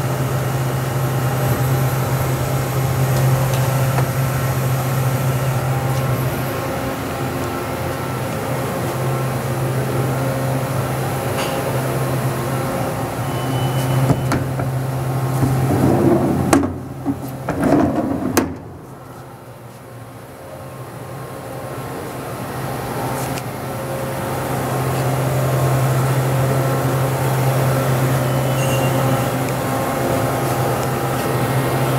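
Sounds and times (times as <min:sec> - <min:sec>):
sliding doors rumbling on track: 0:00.0 - 0:19.6, 0:20.7 - 0:31.9
machinery hum: 0:00.0 - 0:31.9.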